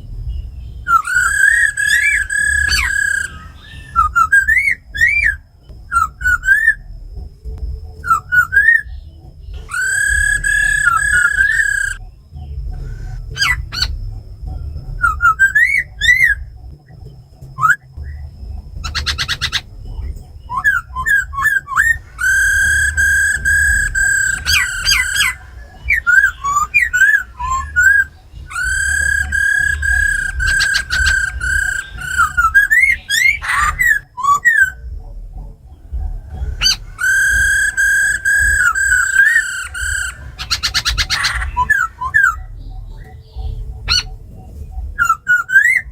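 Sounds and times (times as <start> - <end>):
bird churring rattle call: 0.0 - 45.9
birds whistling and singing: 0.0 - 45.9.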